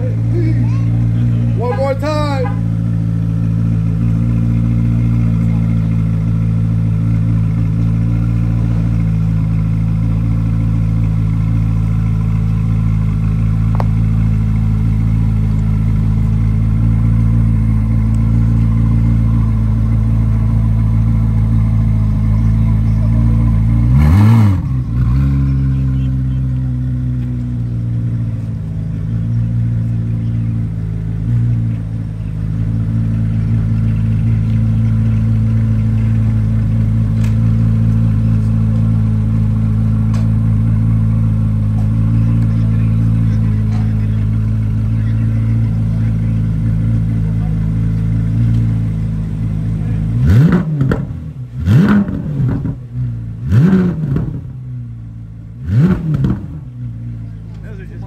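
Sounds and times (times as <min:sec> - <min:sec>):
car engine idling: 0:00.0 - 0:58.0
engine revving: 0:00.0 - 0:58.0.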